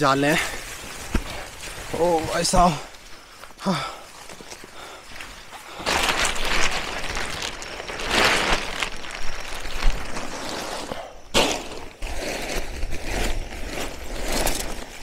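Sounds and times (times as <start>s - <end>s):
plastic sheet rustling and crackling: 0.0s - 3.1s, 4.2s - 15.0s.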